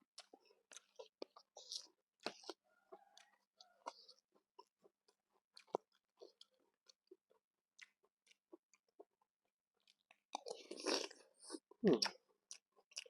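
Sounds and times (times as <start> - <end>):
person chewing: 0.1 - 13.0.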